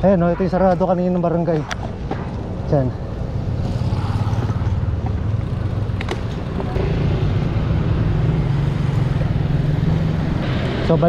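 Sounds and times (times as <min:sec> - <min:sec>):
road rumble: 0:00.0 - 0:11.0
wind: 0:00.0 - 0:11.0.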